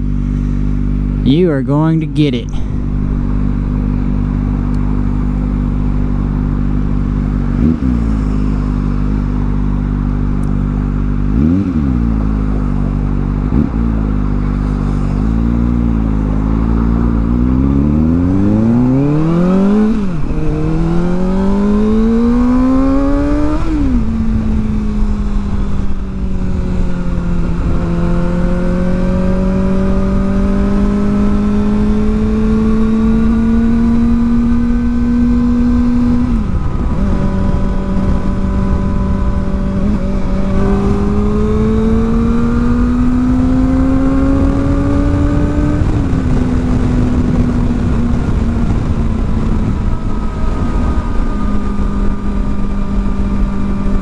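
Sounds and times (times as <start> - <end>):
motorcycle engine revving: 2.5 - 54.0.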